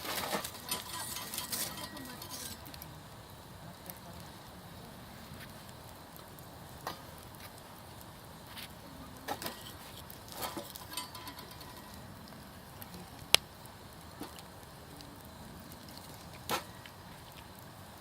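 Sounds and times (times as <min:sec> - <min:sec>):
campfire crackling: 0:00.0 - 0:18.0
low fire hiss: 0:00.0 - 0:18.0.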